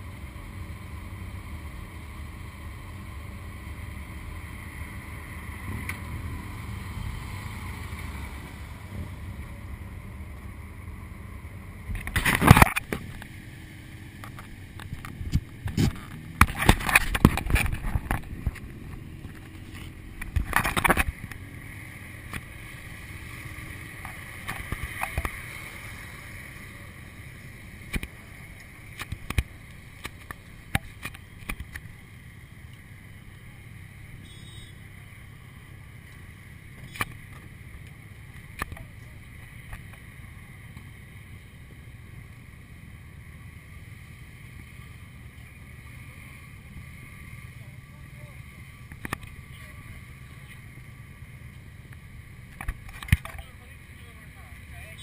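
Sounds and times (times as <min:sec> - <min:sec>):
motorcycle engines at low revs: 0:00.0 - 0:55.0
rushing bursts of noise: 0:01.1 - 0:55.0.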